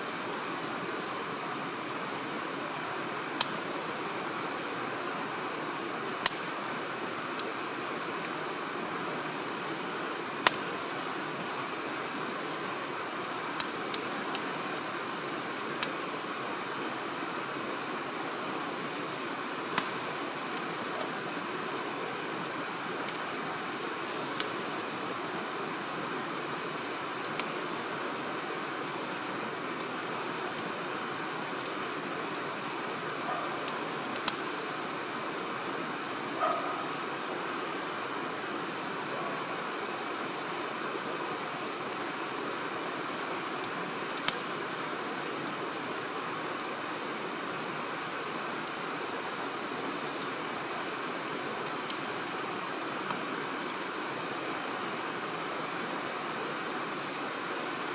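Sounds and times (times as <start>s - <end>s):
fire rushing hiss: 0.0s - 57.8s
campfire crackling and popping: 0.0s - 57.9s.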